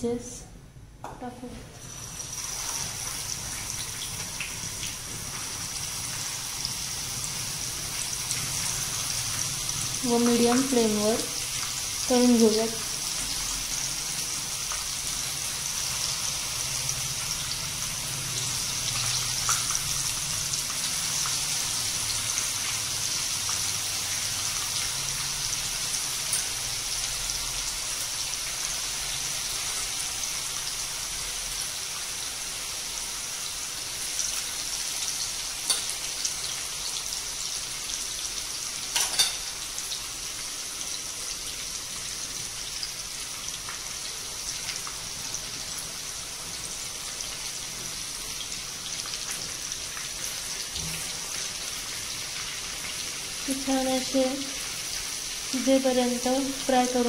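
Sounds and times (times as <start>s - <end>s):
chicken sizzling in hot oil: 1.8s - 57.0s.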